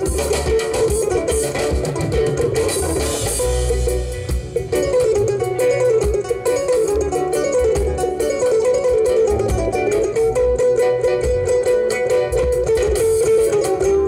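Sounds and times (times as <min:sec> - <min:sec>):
bass guitar: 0:00.0 - 0:14.0
drums: 0:00.0 - 0:14.0
electric guitar fast melody: 0:00.0 - 0:14.0.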